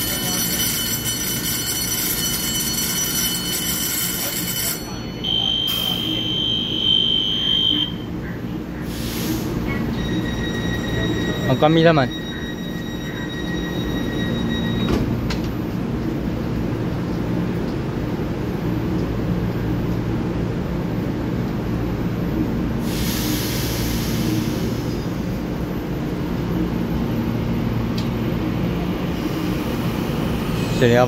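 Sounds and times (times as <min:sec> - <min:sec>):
train equipment humming: 0:00.0 - 0:31.0.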